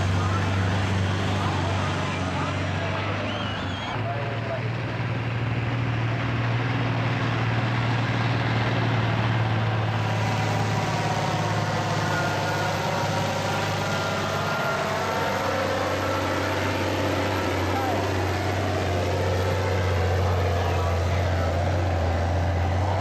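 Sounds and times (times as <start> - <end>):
heavy engine running loudly: 0.0 - 23.0.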